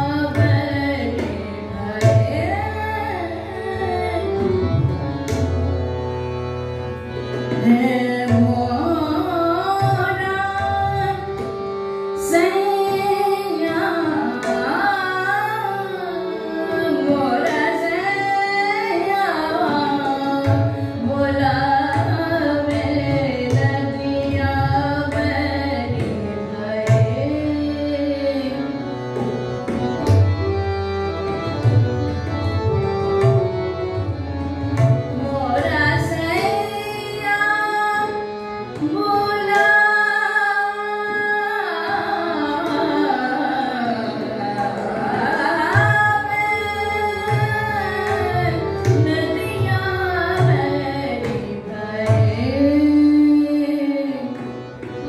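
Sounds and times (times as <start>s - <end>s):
harmonium drone: 0.0s - 55.0s.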